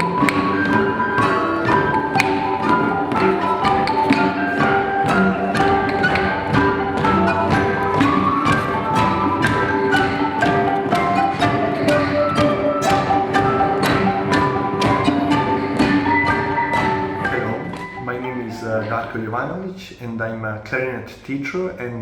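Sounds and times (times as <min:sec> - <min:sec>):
instrumental ensemble music: 0:00.0 - 0:19.6.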